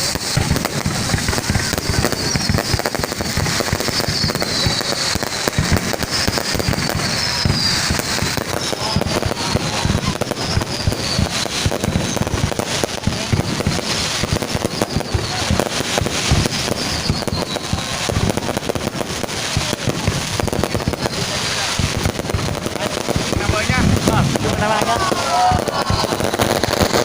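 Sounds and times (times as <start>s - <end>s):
falling firework whistles: 0.0s - 27.0s
fireworks crackling and banging: 0.0s - 27.0s.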